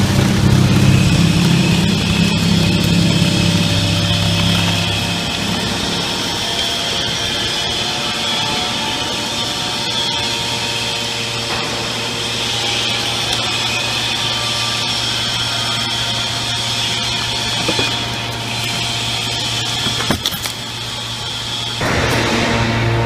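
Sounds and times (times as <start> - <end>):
hydraulic baler mechanical drone: 0.0 - 23.0
low hum: 0.0 - 23.0.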